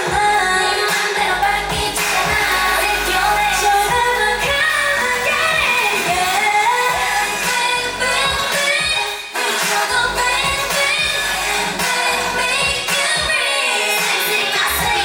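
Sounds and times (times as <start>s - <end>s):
woman singing pop song: 0.0s - 15.0s.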